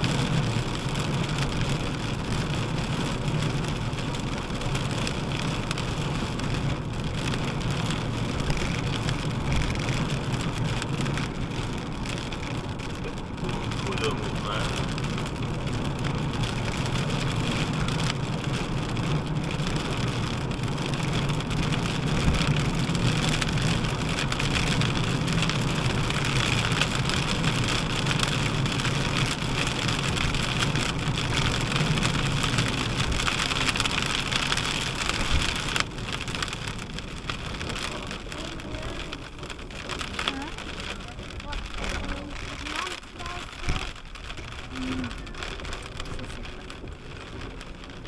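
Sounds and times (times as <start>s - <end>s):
rain and hail hitting car: 0.0s - 48.0s
road noise: 0.0s - 48.0s.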